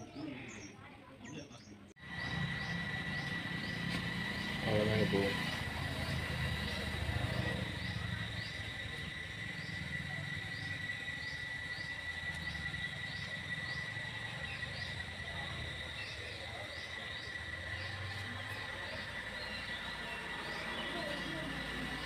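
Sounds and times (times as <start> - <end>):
high-pitched insect drone: 2.0 - 22.0.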